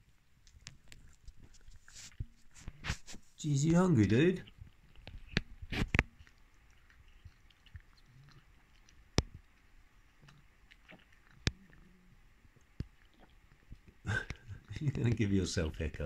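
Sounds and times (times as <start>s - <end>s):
cat chewing food: 0.2s - 16.0s.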